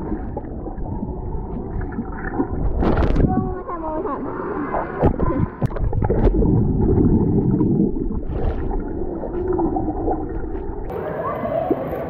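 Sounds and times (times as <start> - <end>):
muffled underwater rushing and bubbling: 0.0 - 12.0.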